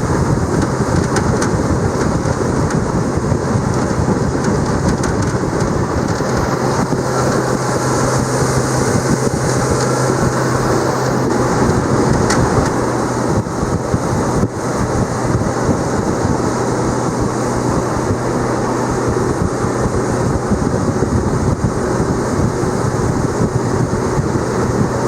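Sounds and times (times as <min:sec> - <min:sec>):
outboard motor running: 0:00.0 - 0:25.0
wind buffeting microphone: 0:00.0 - 0:25.0.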